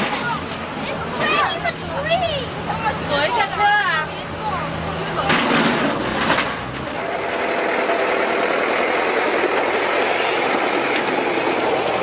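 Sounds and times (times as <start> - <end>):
tractor engine running steadily: 0.0 - 12.0.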